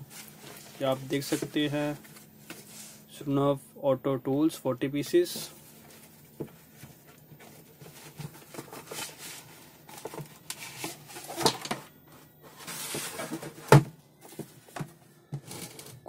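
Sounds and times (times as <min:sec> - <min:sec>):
cardboard box rustling and scraping: 0:00.0 - 0:03.0, 0:05.5 - 0:16.0.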